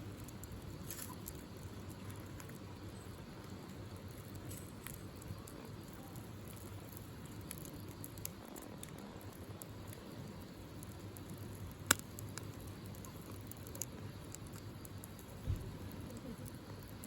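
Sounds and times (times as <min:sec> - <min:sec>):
burning wood popping: 0:00.0 - 0:17.0
campfire flames rustling: 0:00.0 - 0:17.0
small fire crackles: 0:00.0 - 0:17.0.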